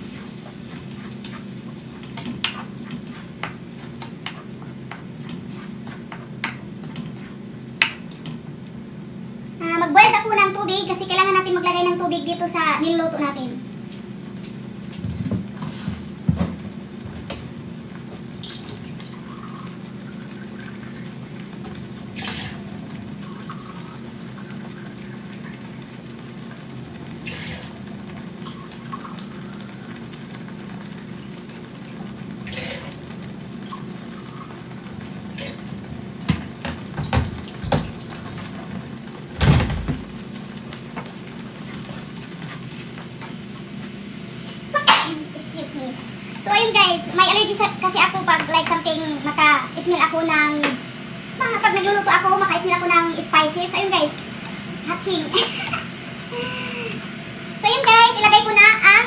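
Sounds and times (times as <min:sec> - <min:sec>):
sauce simmering in a frying pan: 0:00.0 - 0:39.4, 0:40.0 - 0:59.0.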